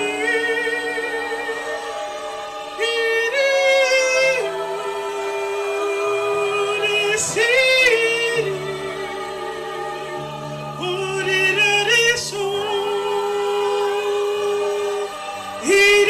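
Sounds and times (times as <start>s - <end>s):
sustained accompanying chords: 0.0s - 16.0s.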